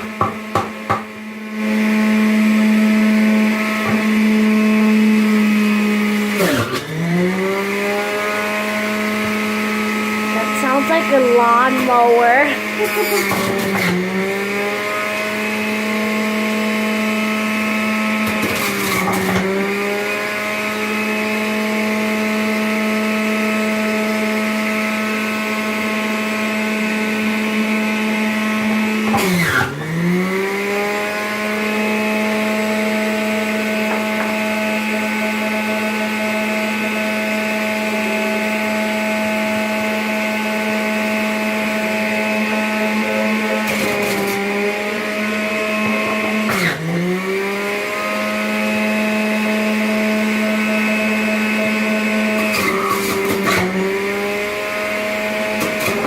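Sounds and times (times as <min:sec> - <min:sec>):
juicer motor humming: 0:00.0 - 0:56.0.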